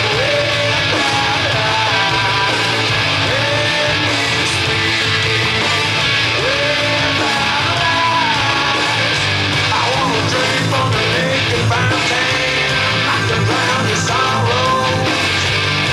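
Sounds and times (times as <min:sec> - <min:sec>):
hard rock music with guitars: 0:00.0 - 0:15.9.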